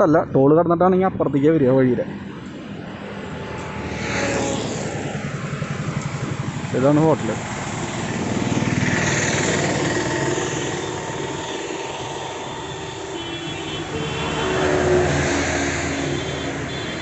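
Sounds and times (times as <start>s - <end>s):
highway traffic passing: 0.0s - 17.0s.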